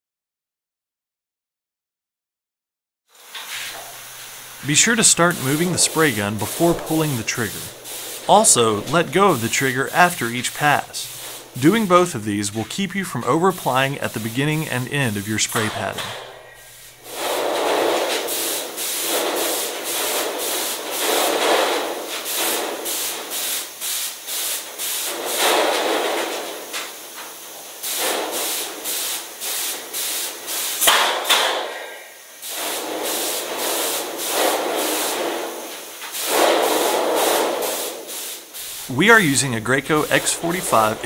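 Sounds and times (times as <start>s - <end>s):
spray gun hissing: 3.2s - 41.0s.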